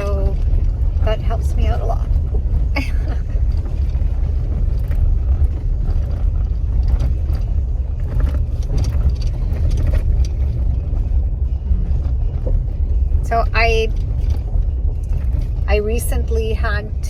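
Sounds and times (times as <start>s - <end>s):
knocks and rattles over bumps: 0.0s - 17.0s
vehicle road rumble: 0.0s - 17.0s.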